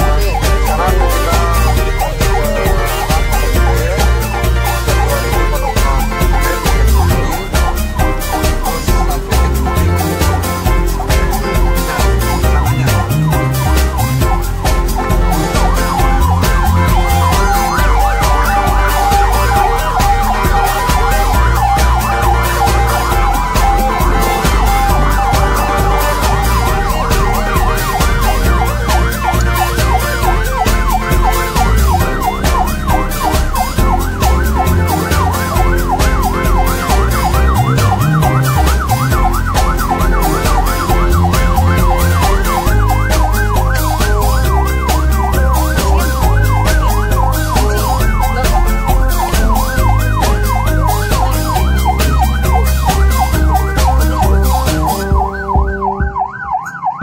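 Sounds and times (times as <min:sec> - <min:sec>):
heavy low drone: 0:00.0 - 0:55.2
ambulance sirens warbling: 0:00.0 - 0:57.0.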